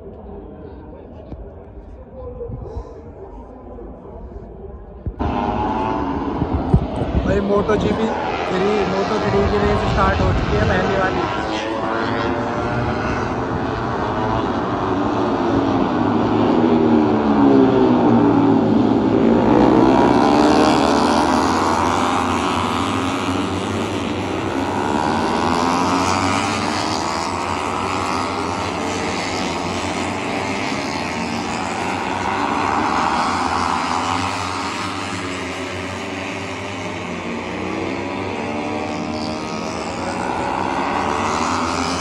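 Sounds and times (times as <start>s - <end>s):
racing motorcycles passing: 5.0s - 42.0s.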